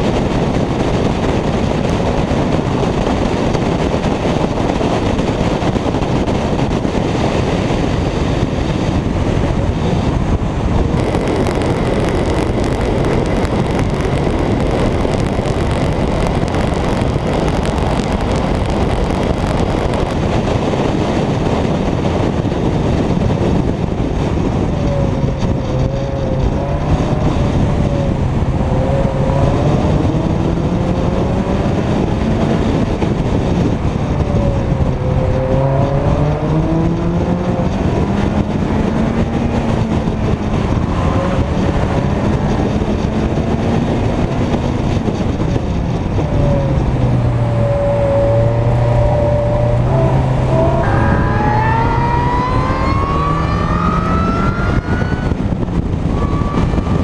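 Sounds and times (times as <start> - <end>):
car engine accelerating: 0.0 - 57.0
road noise: 0.0 - 57.0
wind rush on microphone: 0.0 - 57.0.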